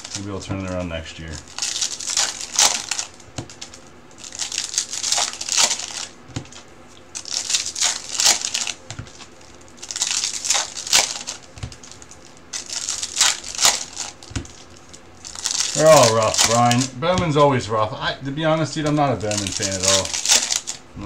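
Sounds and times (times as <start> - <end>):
foil wrappers tearing and crinkling: 0.0 - 17.5, 18.8 - 20.8.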